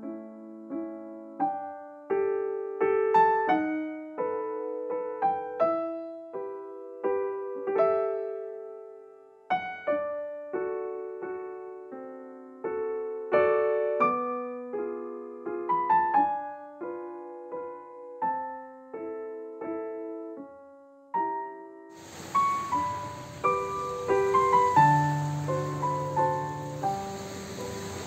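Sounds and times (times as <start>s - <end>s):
slow solo piano melody: 0.0s - 28.0s.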